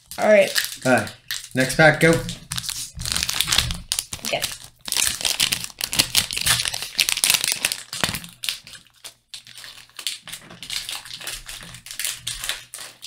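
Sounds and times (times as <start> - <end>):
foil wrapper crinkling: 0.0 - 13.0.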